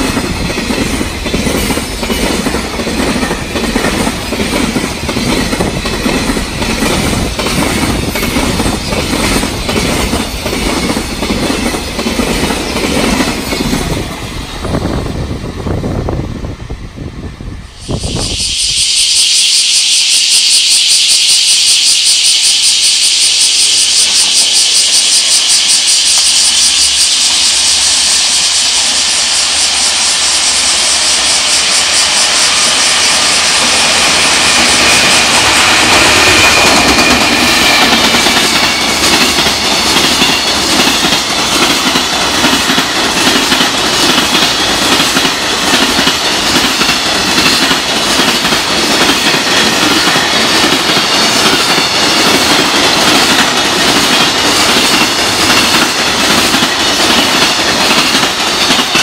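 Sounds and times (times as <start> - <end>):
train wheels clattering on rails: 0.0 - 16.4, 25.2 - 59.0
electric locomotive hissing: 0.0 - 59.0.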